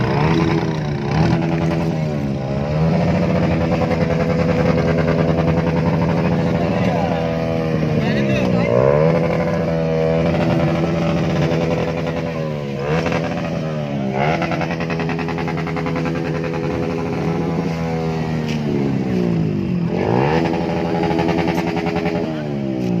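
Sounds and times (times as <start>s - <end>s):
car engine revving high: 0.0s - 23.0s.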